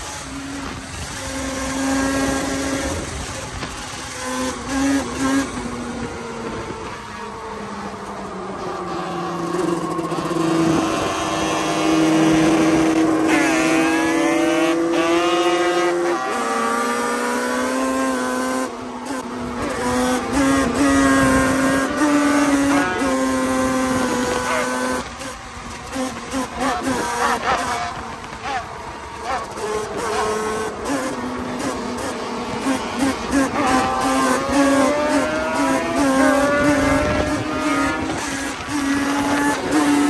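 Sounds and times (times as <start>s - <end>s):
quad engine running hard: 0.0s - 40.0s.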